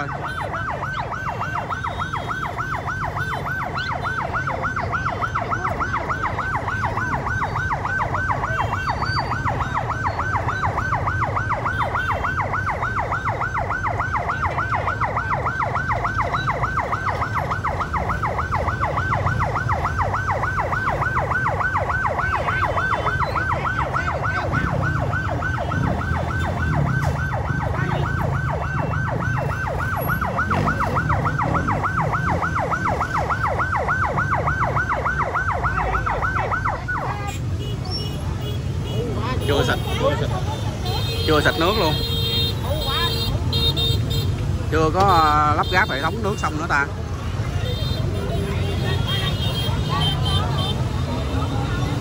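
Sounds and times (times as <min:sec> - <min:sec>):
fire engine siren yelping: 0:00.0 - 0:52.0
low rumble of engines: 0:00.0 - 0:52.0.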